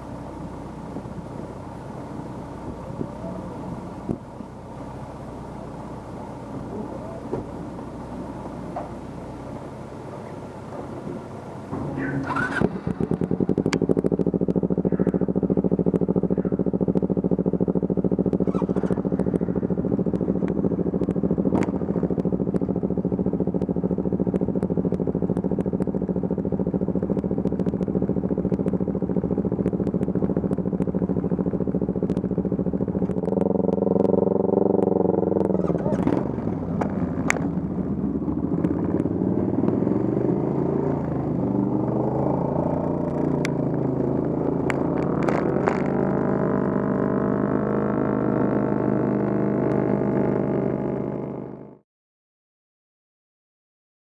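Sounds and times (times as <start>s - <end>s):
motorcycle engine running: 0.0s - 51.8s.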